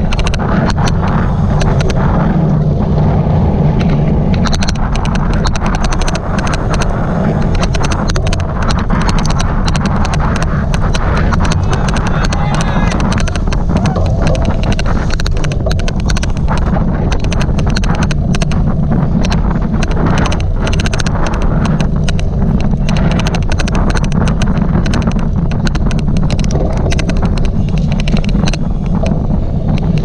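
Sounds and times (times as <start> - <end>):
rapid irregular clicking: 0.0 - 30.0
wind rumble on microphone: 0.0 - 30.0.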